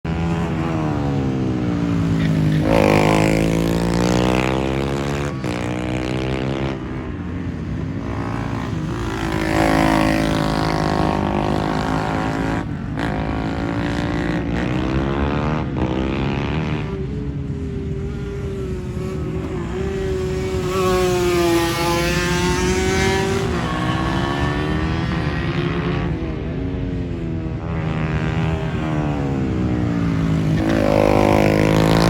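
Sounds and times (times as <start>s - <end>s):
racing motorbike engines revving: 0.1s - 32.0s.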